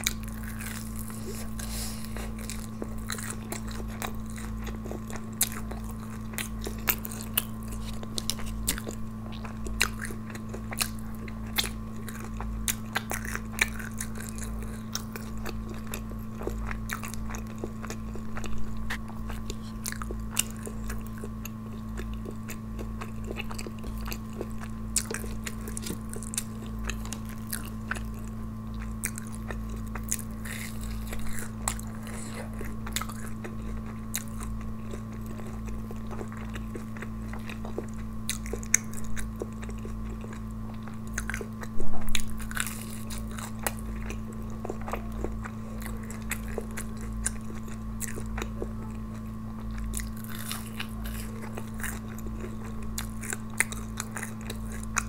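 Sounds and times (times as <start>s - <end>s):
crunchy food chewing: 0.0s - 55.0s
low electrical hum: 0.0s - 55.0s.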